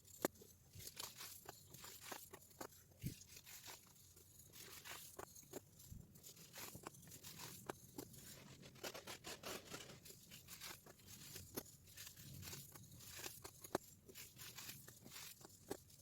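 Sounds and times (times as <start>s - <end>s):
reversed powder crumbling crackle: 0.0s - 16.0s.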